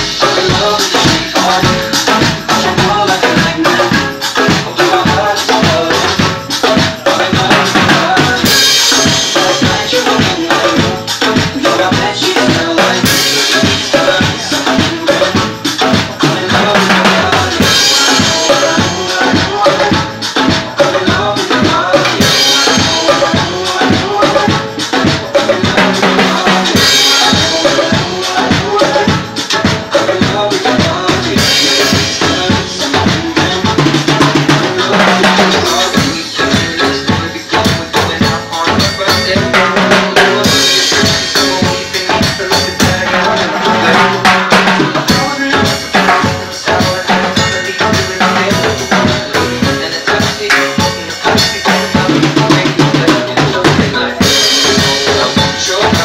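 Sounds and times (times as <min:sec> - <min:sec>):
electronic backing track: 0:00.0 - 0:56.0
fast percussion solo: 0:00.0 - 0:56.0.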